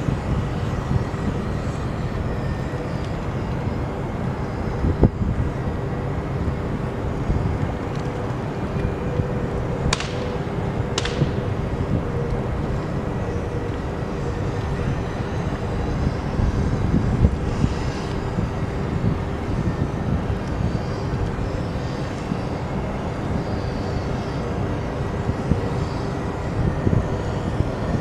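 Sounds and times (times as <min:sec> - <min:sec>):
industrial machinery droning: 0:00.0 - 0:28.0
wind rumbling on microphone: 0:00.0 - 0:28.0.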